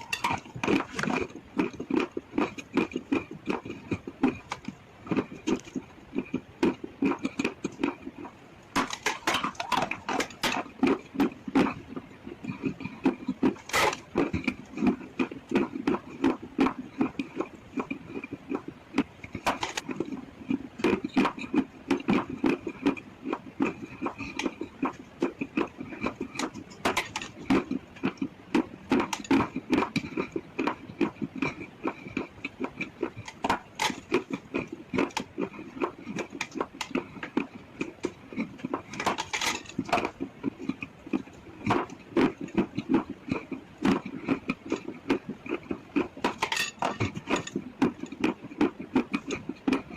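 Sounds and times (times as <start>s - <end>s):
crunching of chalk being chewed: 0.0s - 49.9s
wet mouth sounds: 0.0s - 49.9s.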